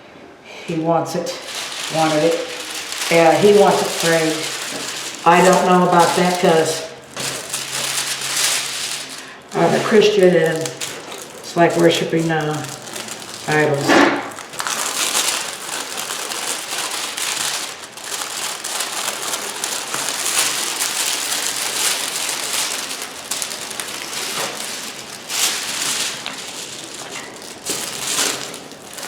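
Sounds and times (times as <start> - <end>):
plastic sheet crinkling: 0.7 - 29.0.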